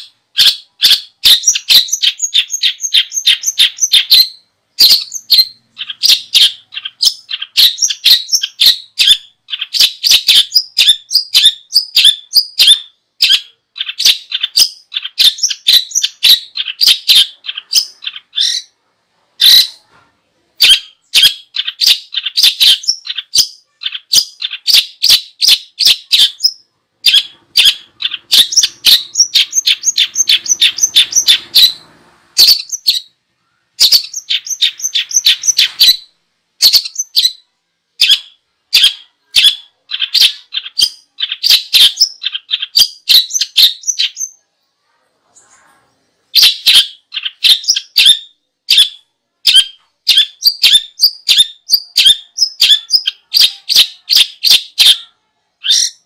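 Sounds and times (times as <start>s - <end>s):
songbird chattering: 0.0s - 18.8s, 19.4s - 19.9s, 20.6s - 44.4s, 46.3s - 56.0s.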